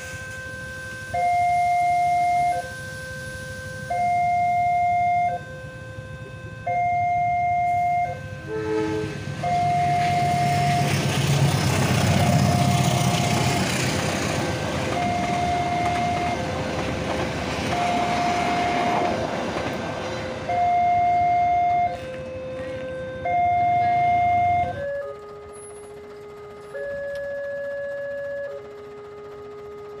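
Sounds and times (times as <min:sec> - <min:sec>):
two-tone crossing alarm: 0:00.0 - 0:30.0
train carriages rumbling: 0:04.4 - 0:30.0.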